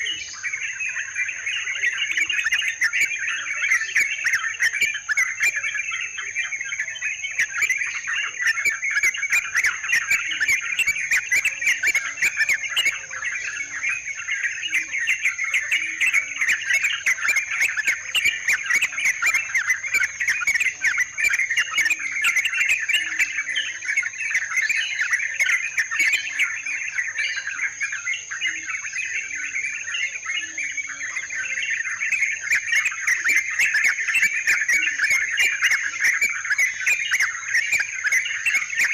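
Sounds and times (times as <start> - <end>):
bulbuls chattering: 0.0 - 38.9.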